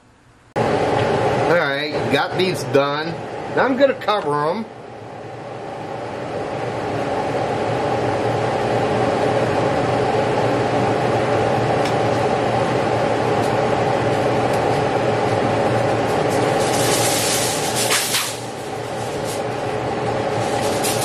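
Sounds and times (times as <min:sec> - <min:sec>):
fan humming and whirring: 0:00.0 - 0:21.0.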